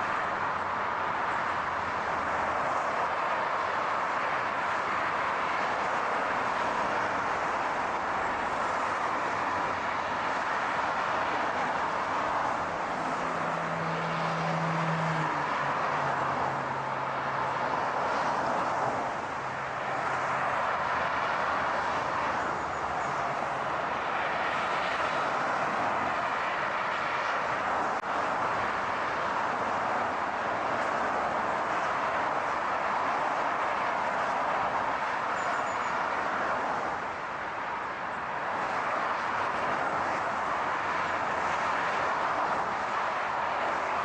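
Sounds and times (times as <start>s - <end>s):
car driving: 0.0s - 44.0s.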